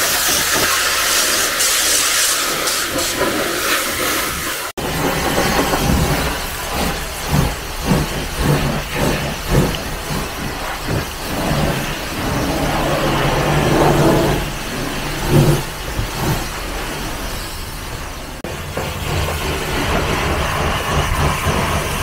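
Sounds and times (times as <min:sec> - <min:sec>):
brush scrubbing foam on car: 0:00.0 - 0:22.0
mechanical hum and hiss: 0:00.0 - 0:22.0.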